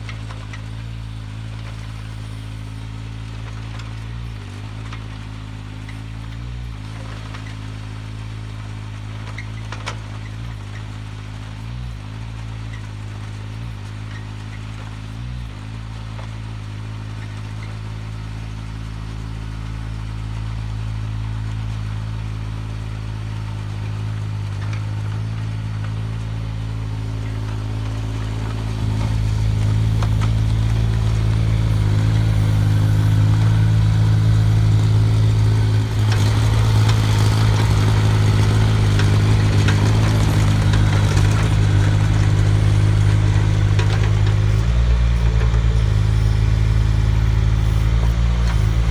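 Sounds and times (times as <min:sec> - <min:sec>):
mini excavator engine running: 0:00.0 - 0:48.9.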